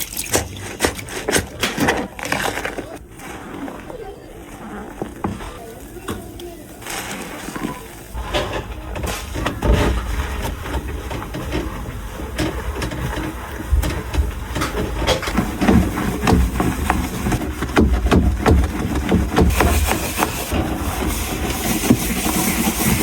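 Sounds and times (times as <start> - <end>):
food containers being handled: 0.0 - 23.0.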